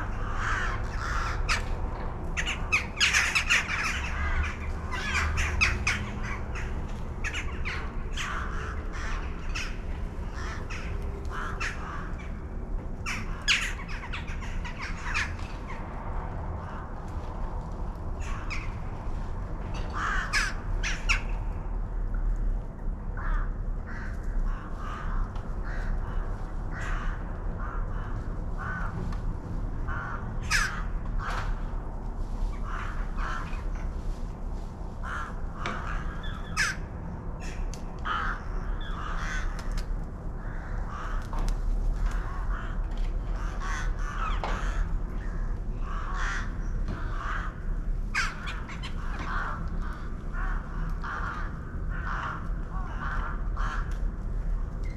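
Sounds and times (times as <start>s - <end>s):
crows cawing: 0.0s - 15.9s, 16.5s - 17.0s, 18.0s - 19.1s, 19.7s - 21.6s, 23.1s - 31.9s, 32.5s - 34.2s, 35.0s - 54.9s.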